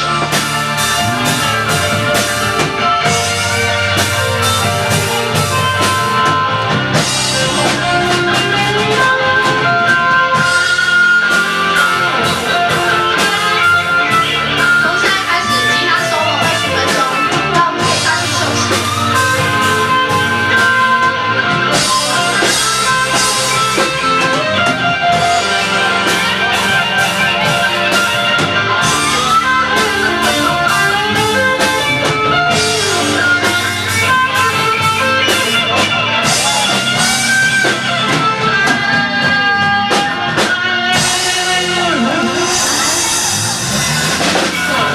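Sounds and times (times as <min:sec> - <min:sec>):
drum kit: 0:00.0 - 0:44.9
guitar: 0:00.0 - 0:44.9.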